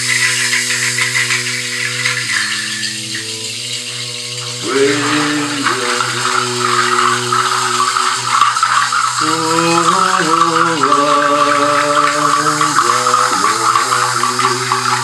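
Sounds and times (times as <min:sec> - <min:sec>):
shell rattle shaken: 0:00.0 - 0:15.0
sliding melody of held notes: 0:00.0 - 0:15.0
steady low drone: 0:00.0 - 0:15.0.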